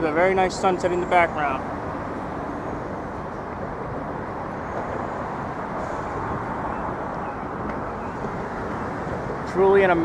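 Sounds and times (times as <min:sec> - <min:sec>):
city traffic rumble: 0:00.0 - 0:10.0.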